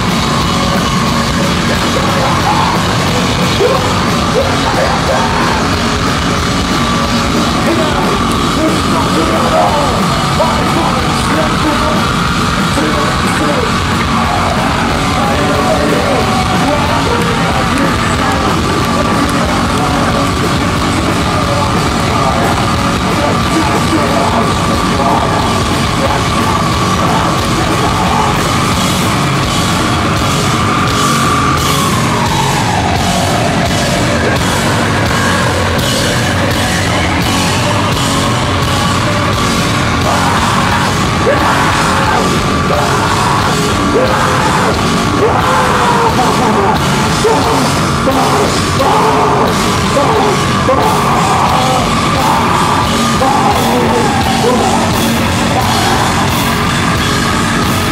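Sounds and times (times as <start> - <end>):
live heavy rock band: 0.0 - 57.9.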